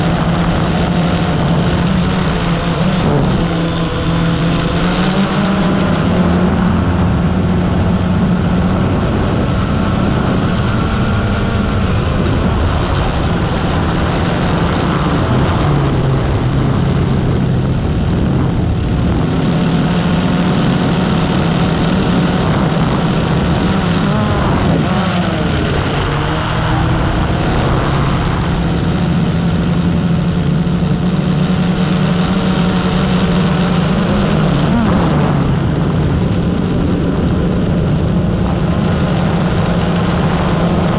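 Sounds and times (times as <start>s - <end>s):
drone propellers whirring: 0.0s - 40.9s.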